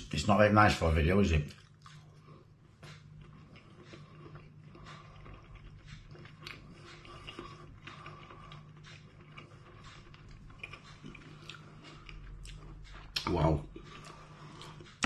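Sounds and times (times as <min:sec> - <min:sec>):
faint steady hum: 0:00.0 - 0:15.0
person eating ribs clicking: 0:01.5 - 0:15.0.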